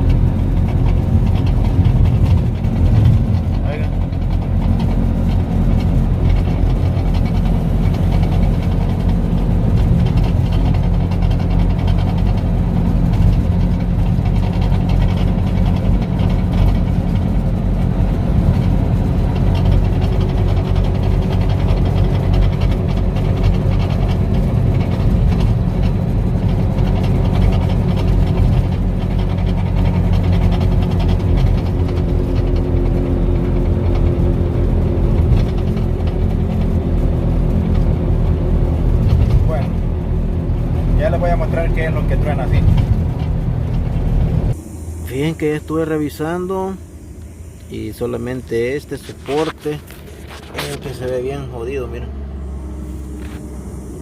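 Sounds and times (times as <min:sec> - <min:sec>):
single-cylinder engine running: 0:00.0 - 0:54.0.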